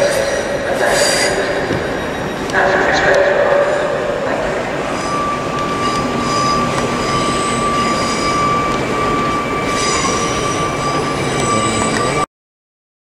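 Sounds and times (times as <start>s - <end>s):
high wheel squeal: 0.0s - 2.8s, 3.6s - 12.3s
train rolling slowly: 0.0s - 12.3s.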